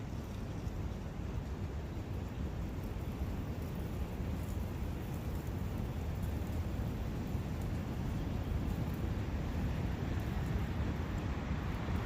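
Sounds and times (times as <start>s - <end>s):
wind in forest: 0.0s - 12.0s.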